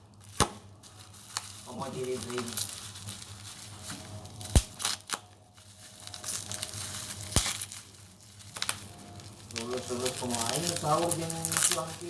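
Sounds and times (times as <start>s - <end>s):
packaging crinkling: 0.1s - 12.0s.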